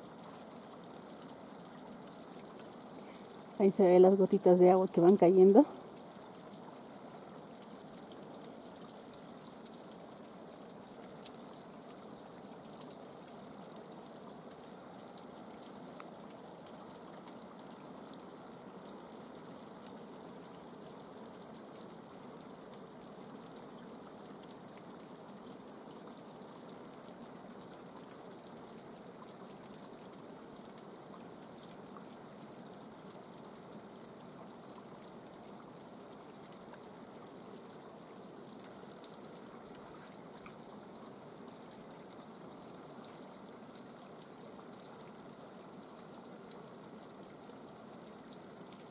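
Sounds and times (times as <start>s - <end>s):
water trickling over rock: 0.0s - 48.9s.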